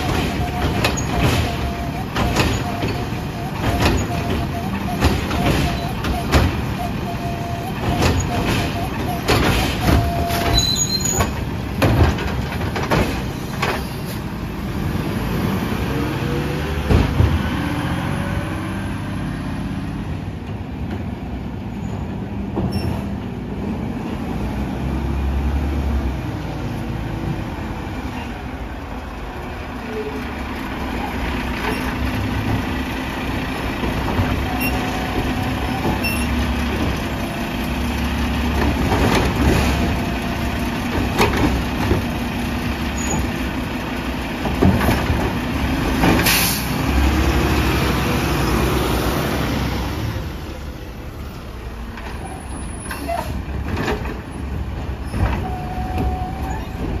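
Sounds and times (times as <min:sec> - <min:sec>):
garbage truck engine running: 0:00.0 - 0:18.3, 0:26.6 - 0:57.0.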